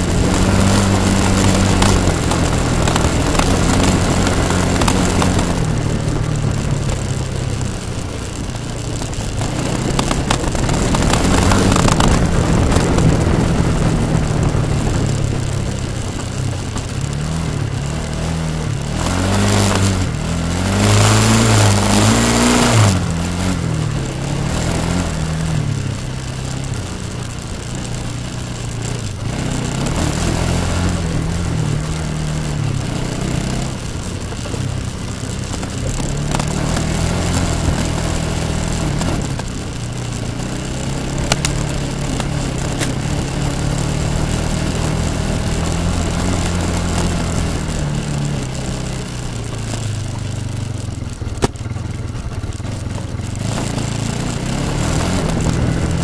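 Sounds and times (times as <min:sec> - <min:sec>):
atv engine revving: 0:00.0 - 0:56.0
broad rushing noise: 0:00.0 - 0:56.0.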